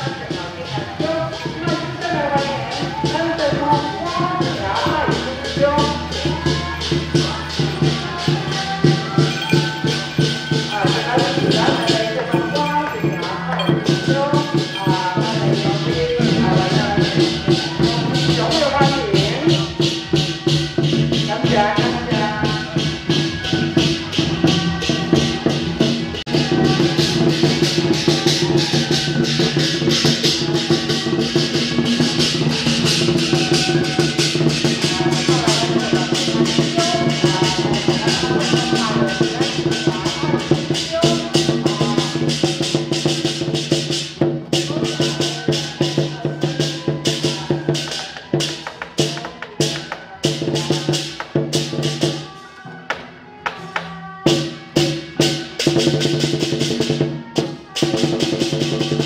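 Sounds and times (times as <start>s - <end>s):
drum and cymbal strokes: 0.0s - 59.0s.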